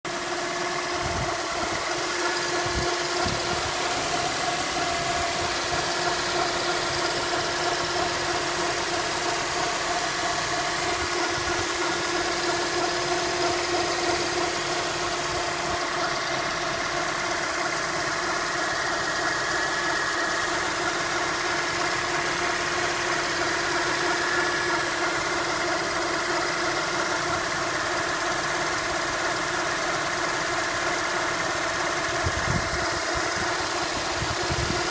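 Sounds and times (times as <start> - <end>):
car engine idling: 0.1 - 34.9
engine grinding noise: 0.1 - 34.9.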